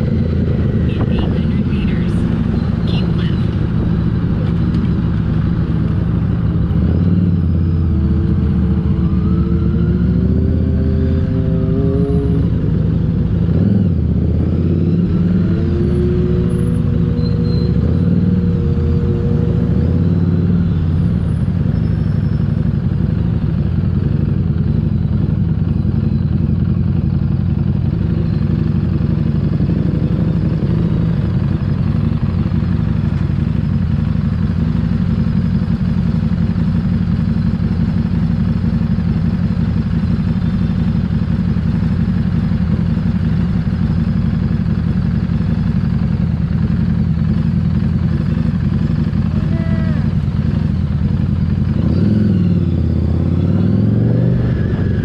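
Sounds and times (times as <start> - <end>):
motorcycle engine accelerating: 0.0 - 55.0
rushing road noise: 0.0 - 55.0.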